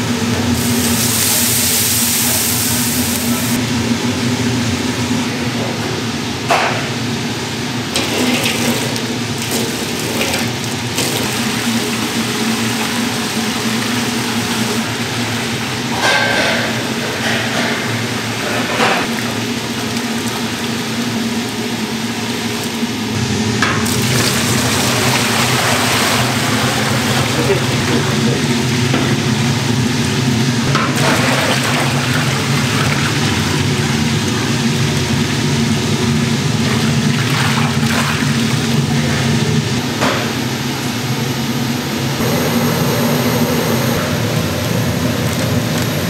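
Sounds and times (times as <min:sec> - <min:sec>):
equipment humming: 0:00.0 - 0:46.0.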